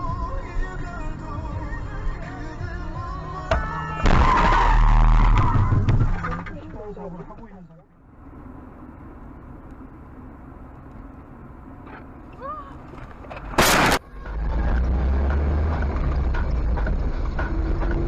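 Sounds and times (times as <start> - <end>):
car road and engine noise: 0.0 - 18.0
deep driving rumble: 0.0 - 18.0.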